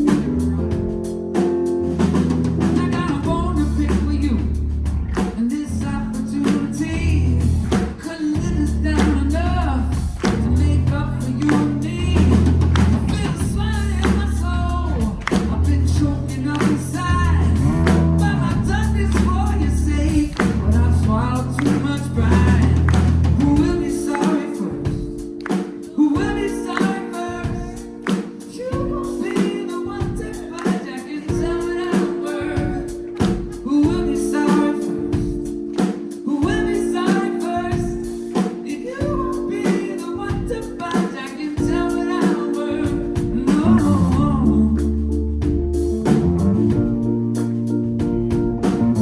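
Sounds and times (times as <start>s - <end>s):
live pop-rock band: 0.0s - 49.0s
man singing: 2.6s - 45.4s.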